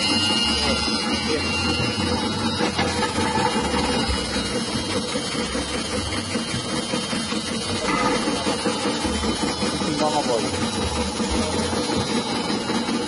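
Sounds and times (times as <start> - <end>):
rotating blade cutting: 0.0 - 13.0
slicing machine motor running: 0.0 - 13.0.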